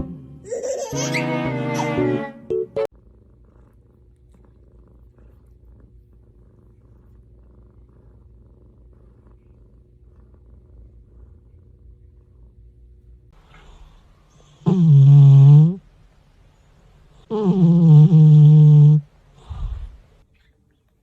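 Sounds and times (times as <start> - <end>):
cat purring: 2.8 - 21.0.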